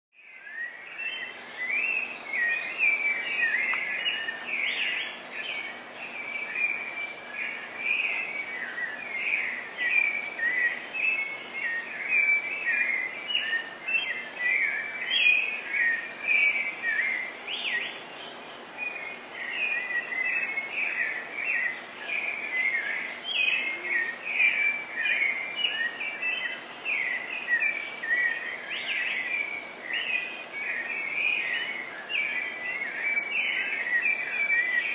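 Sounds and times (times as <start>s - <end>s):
birds chirping and whistling: 0.2s - 34.9s.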